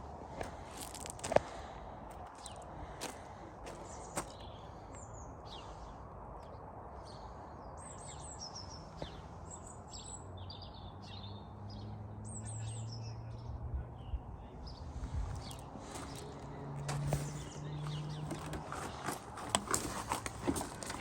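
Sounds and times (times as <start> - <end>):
small birds chirping: 0.3 - 21.0.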